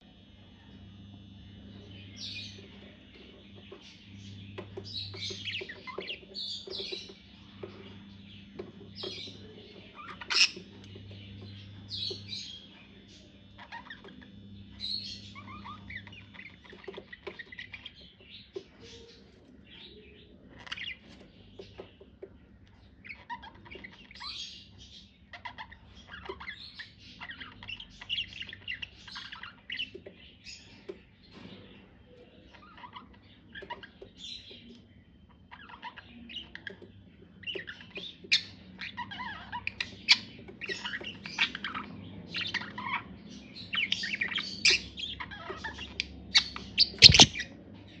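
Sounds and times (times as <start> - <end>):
budgies chirping and squawking: 0.1 - 48.0.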